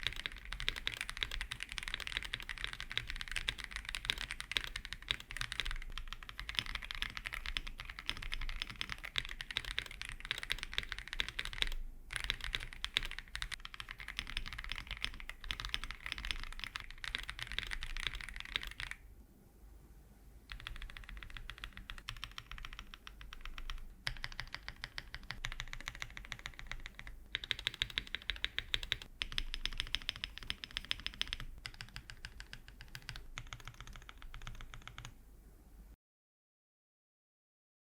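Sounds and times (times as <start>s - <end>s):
fast typing on mechanical keyboard: 0.0s - 19.0s, 20.5s - 35.2s.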